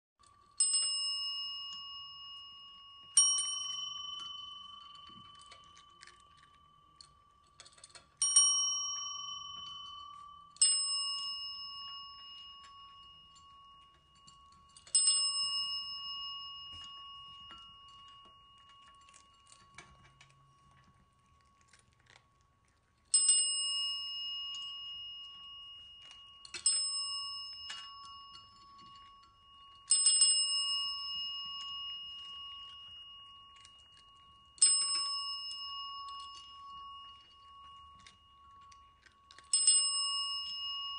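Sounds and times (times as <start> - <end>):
small bell ringing: 0.2 - 40.9.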